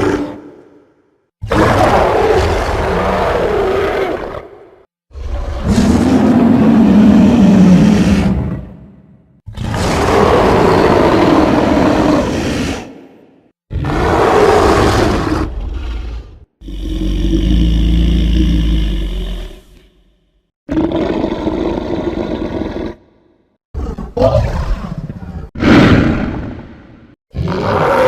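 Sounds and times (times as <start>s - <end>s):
dinosaur roars: 0.0s - 0.8s, 1.4s - 13.1s, 13.7s - 19.9s, 23.8s - 28.0s.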